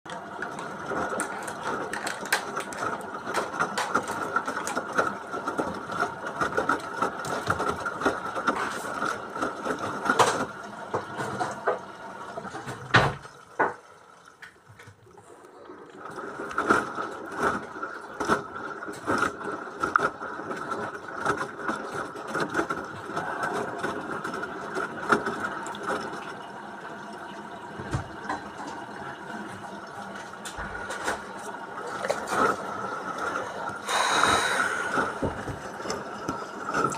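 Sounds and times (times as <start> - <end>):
washing machine motor hum: 0.1 - 36.9.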